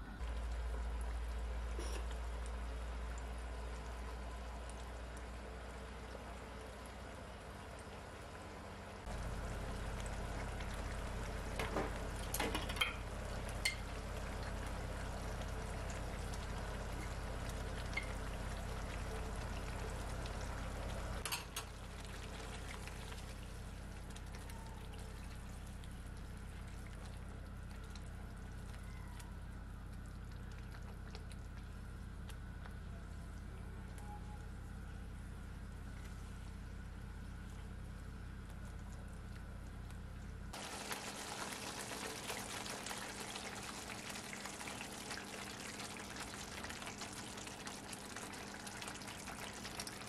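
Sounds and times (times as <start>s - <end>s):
sauce bubbling in a pan: 0.2s - 33.4s, 40.2s - 50.0s.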